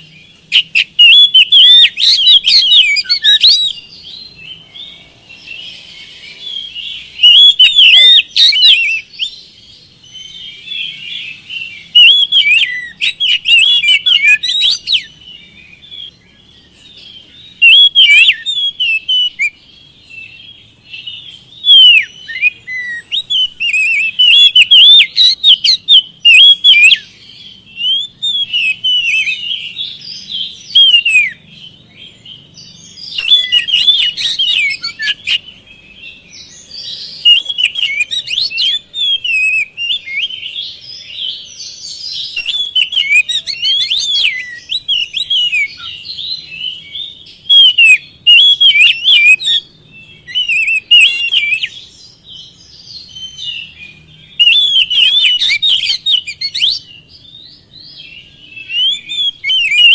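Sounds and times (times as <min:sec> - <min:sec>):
bird singing whistles and chips: 0:00.0 - 0:59.9.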